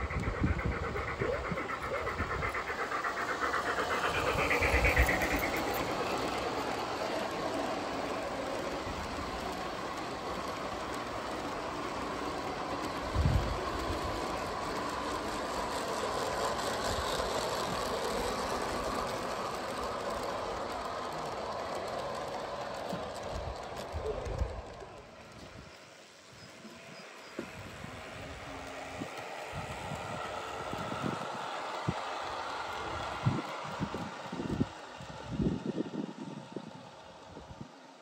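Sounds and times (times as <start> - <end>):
model train running on track: 0.0 - 38.0.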